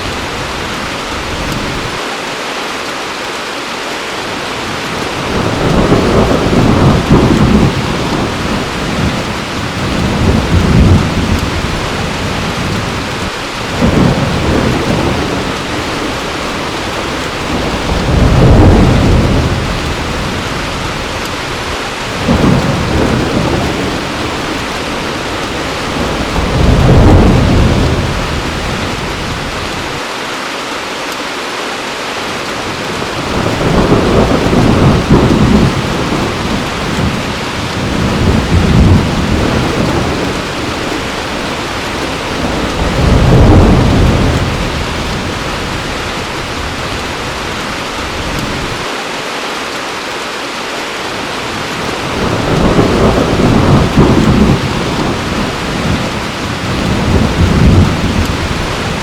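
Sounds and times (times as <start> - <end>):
heavy rain falling: 0.0 - 59.0
thunder rolling: 4.7 - 30.0, 32.8 - 48.8, 51.5 - 59.0.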